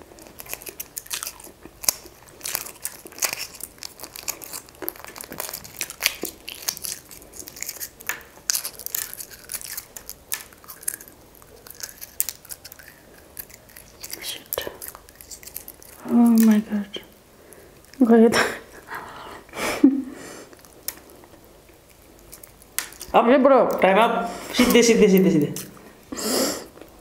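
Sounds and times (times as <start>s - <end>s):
egg shell crackling being peeled: 0.0s - 18.9s, 20.4s - 24.0s.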